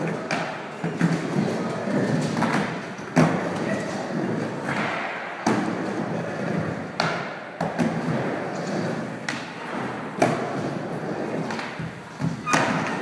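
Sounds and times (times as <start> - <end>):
skateboard clacks and thuds: 0.0 - 13.0
skateboard wheels rolling on wood: 0.0 - 13.0.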